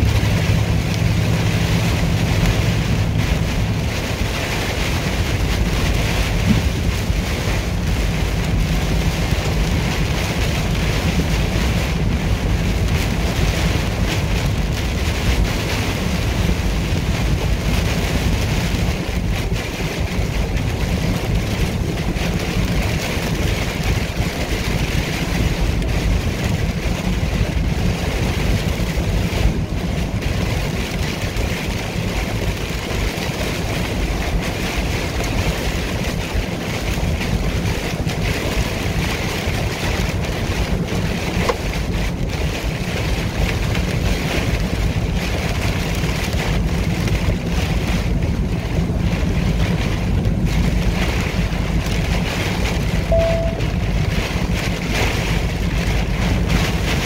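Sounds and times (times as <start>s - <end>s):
rain striking windshield and roof: 0.0s - 57.0s
tyres hissing on wet pavement: 0.0s - 57.0s.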